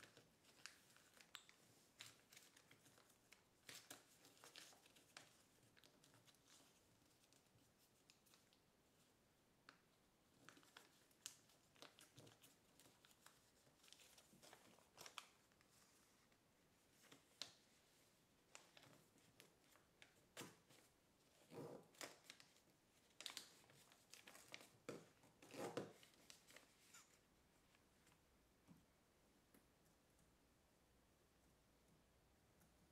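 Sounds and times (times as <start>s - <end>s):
paper crinkling and rustling: 0.0s - 8.6s, 10.3s - 28.2s.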